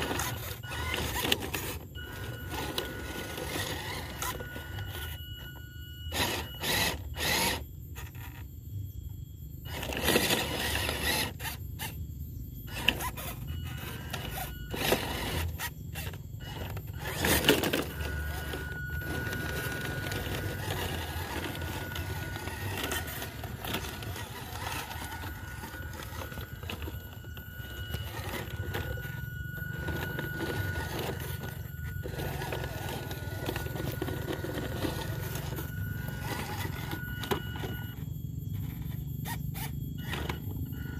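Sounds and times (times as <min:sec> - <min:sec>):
rc car scraping on rock: 0:00.0 - 0:05.5, 0:06.1 - 0:08.5, 0:09.7 - 0:12.0, 0:12.7 - 0:40.9
thin steady whine: 0:00.0 - 0:40.9.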